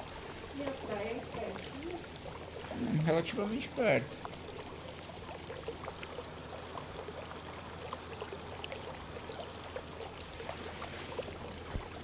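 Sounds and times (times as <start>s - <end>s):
low steady hum: 0.0s - 12.0s
water trickling and splashing: 0.0s - 12.0s.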